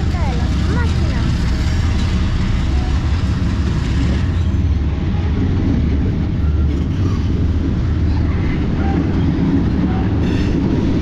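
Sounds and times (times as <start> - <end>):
locomotive engine rumble: 0.0 - 11.0
wheels rolling on rails: 0.0 - 11.0.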